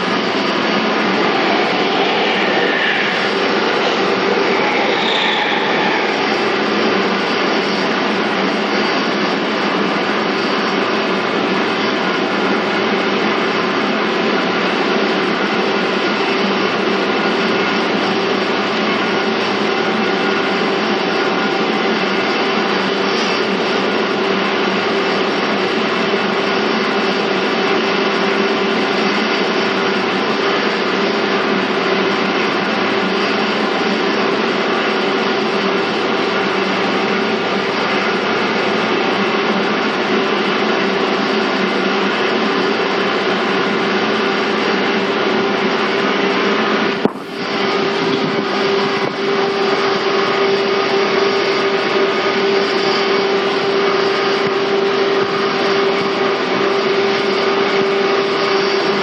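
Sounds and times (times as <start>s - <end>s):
train interior rumble and hum: 0.0s - 59.0s.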